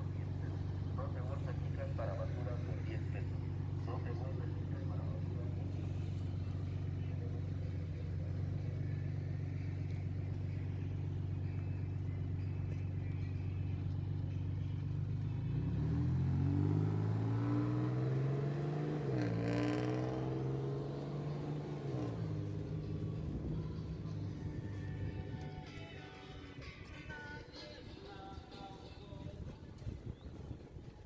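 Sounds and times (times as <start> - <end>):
vehicle engine accelerating: 0.0 - 27.0.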